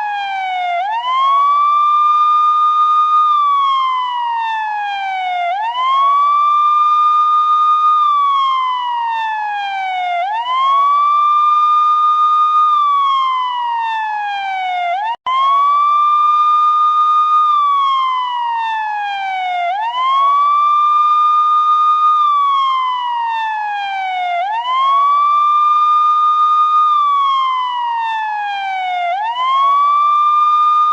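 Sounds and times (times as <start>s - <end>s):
police siren wailing: 0.0s - 30.9s.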